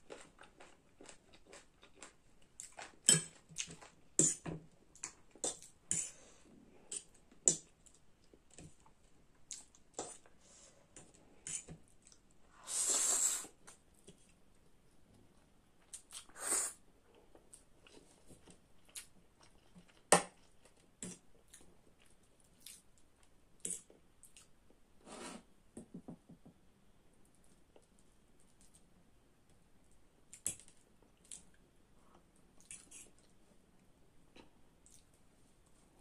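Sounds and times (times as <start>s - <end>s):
quiet chewing: 0.0s - 12.3s, 17.0s - 24.8s, 27.2s - 36.0s.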